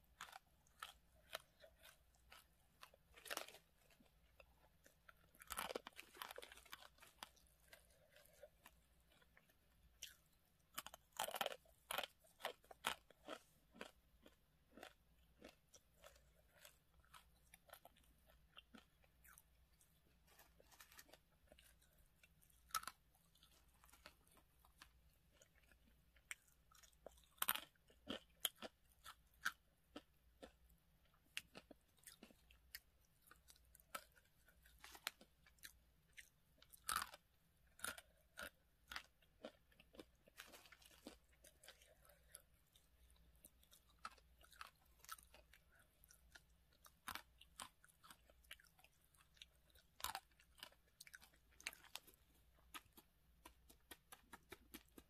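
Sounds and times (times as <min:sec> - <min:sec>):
person chewing crunchy dry noodles: 0:00.0 - 0:55.0.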